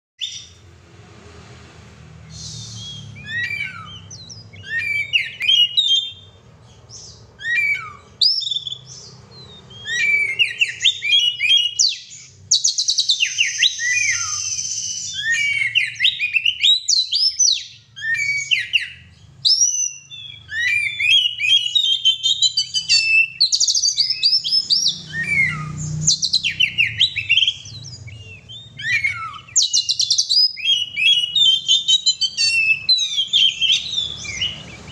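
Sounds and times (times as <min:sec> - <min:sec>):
bird singing whistles and trills: 0:00.2 - 0:00.6, 0:02.3 - 0:34.9.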